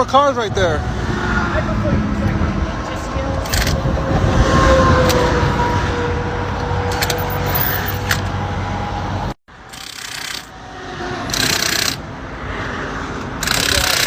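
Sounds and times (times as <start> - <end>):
cars rushing past: 0.0 - 14.0
highway traffic rumble: 0.0 - 14.0.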